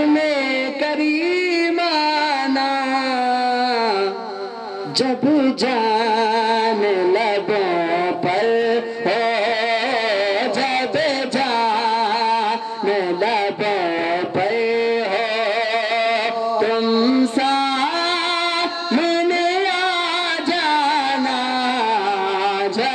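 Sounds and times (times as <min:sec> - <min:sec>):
man chanting into a microphone: 0:00.0 - 0:22.9.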